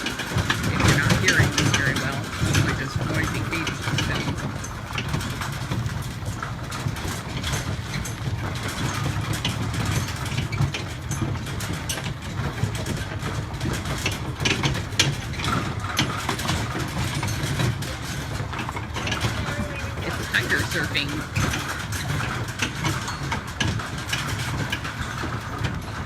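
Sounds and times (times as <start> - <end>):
clicks and rattles: 0.0 - 26.0.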